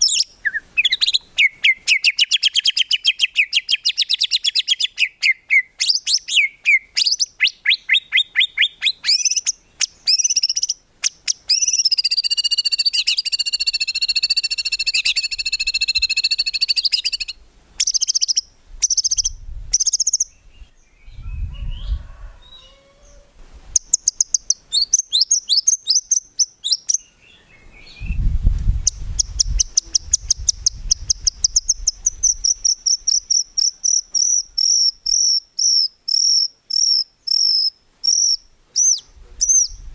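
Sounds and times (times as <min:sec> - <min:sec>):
bird singing whistled song: 0:00.0 - 0:22.8, 0:23.8 - 0:39.9.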